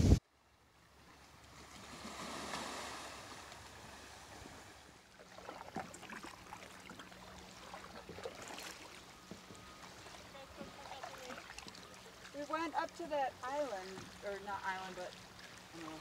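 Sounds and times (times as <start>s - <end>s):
soft wash of water: 0.0s - 16.0s
paddle splashing and dripping: 0.7s - 16.0s.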